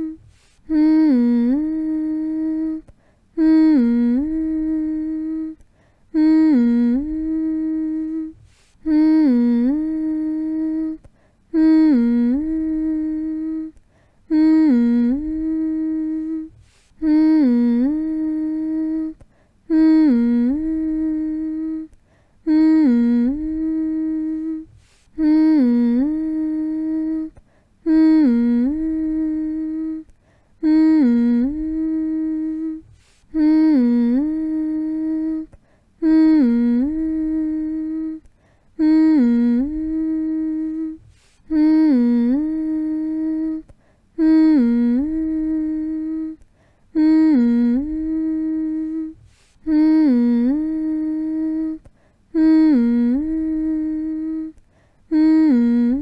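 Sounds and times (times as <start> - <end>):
person humming: 0.0 - 56.0.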